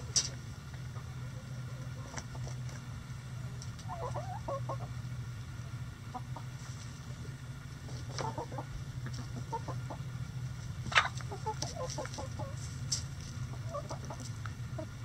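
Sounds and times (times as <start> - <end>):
hens clucking: 0.0 - 15.0
steady low hum: 0.0 - 15.0.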